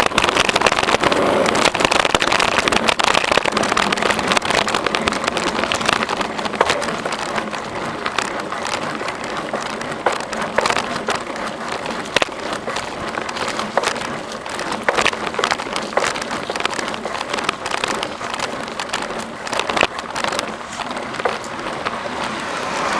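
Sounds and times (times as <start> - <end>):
bicycle clicks and rattles: 0.0 - 22.9
bicycle tyre noise on trail: 0.0 - 22.9.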